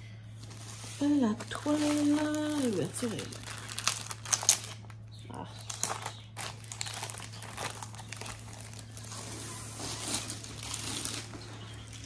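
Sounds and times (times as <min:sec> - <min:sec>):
plastic sleeve crinkling: 0:00.4 - 0:12.0.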